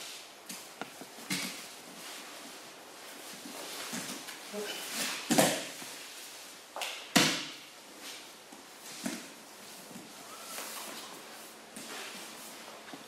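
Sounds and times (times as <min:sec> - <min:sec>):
faint shuffling on mat: 0:00.0 - 0:06.8, 0:07.8 - 0:13.0.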